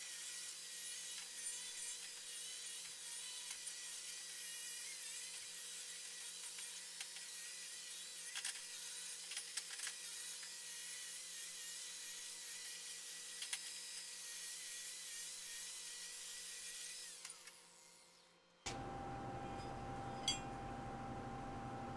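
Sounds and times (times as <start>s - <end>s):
angle grinder grinding steel: 0.2s - 21.9s.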